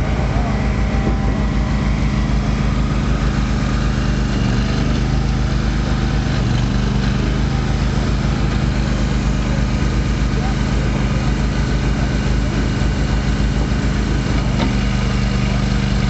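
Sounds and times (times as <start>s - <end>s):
small gasoline engine running: 0.0s - 16.0s.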